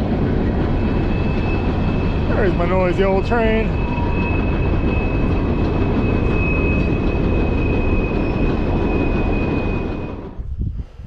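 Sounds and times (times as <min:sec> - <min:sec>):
train rumbling past: 0:00.0 - 0:11.0
thin high whine: 0:00.9 - 0:10.4.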